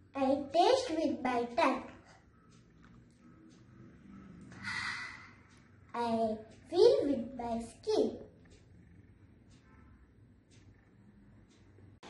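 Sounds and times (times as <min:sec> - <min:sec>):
faint soft ticking: 0:00.0 - 0:12.0.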